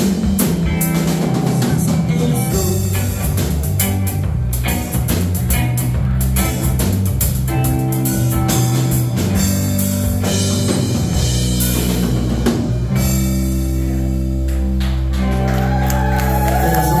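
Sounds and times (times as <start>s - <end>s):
drum kit: 0.0s - 17.0s
electric bass: 0.0s - 17.0s
electric guitar: 0.0s - 17.0s.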